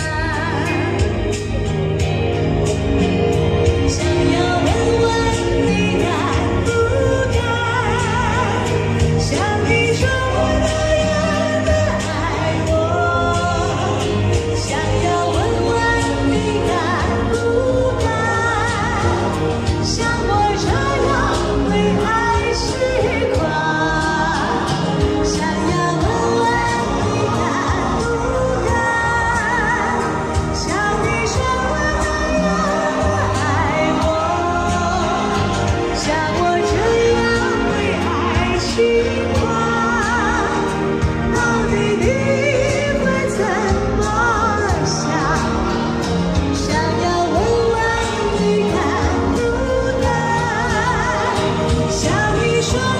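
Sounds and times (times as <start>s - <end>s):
backing track on loudspeaker: 0.0s - 52.9s
person singing with vibrato: 0.0s - 52.9s.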